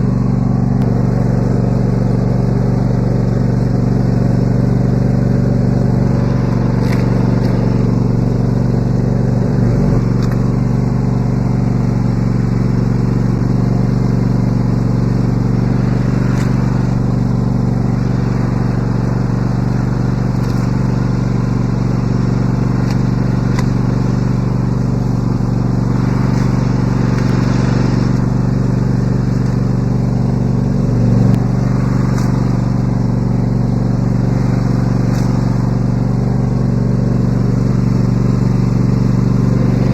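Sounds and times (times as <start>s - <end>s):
riding mower engine idling: 0.0s - 39.9s.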